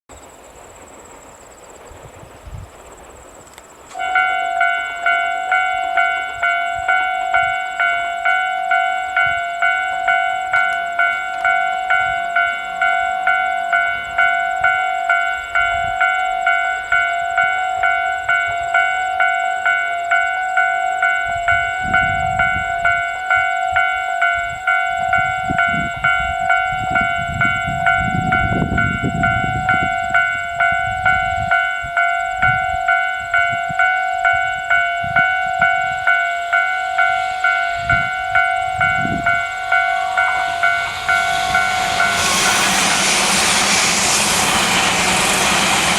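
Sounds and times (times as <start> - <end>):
low rumble of passing train: 0.1 - 45.9
level crossing alarm ringing: 3.9 - 45.9.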